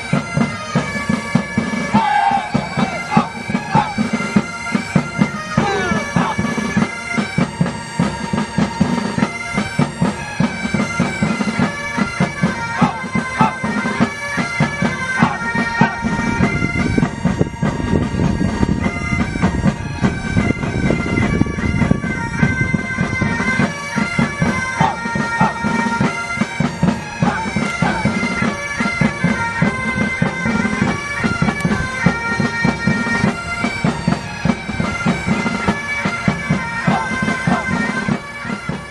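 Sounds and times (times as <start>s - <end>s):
bagpipes playing a tune: 0.0s - 38.9s
drums keeping a beat: 0.0s - 38.9s.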